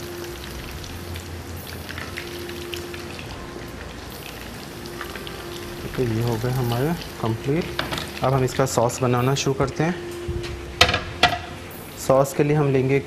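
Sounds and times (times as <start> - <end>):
meat deep-frying in oil: 0.0 - 13.0.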